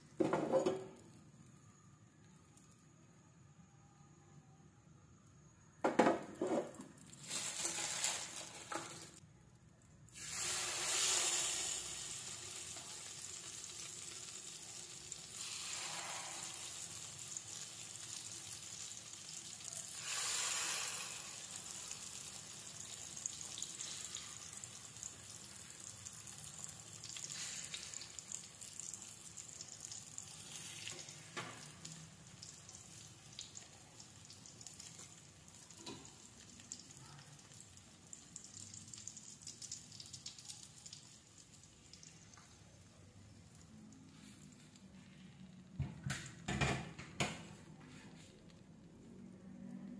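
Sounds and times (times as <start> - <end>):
eggplants frying in hot oil: 0.0 - 2.9, 5.4 - 47.4.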